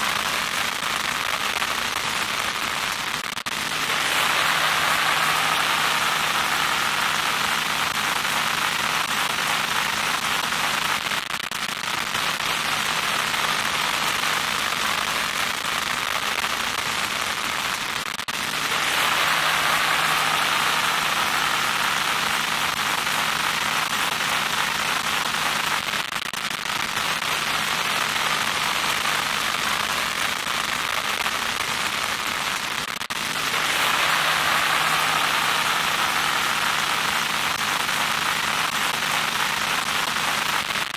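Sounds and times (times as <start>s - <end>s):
crackling electronic static: 0.0s - 40.9s.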